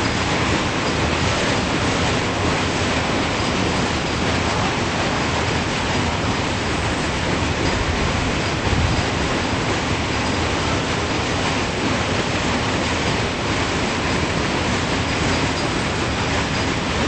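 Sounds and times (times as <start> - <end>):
steel wheels rolling on rail: 0.0 - 17.0.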